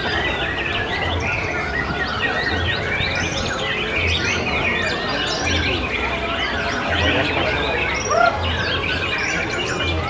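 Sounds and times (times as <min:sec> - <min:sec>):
birds whistling and chirping: 0:00.0 - 0:10.0.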